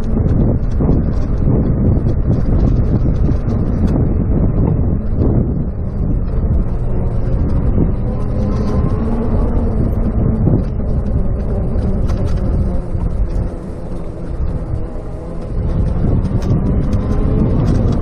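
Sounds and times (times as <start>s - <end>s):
wind and road noise: 0.0s - 18.0s.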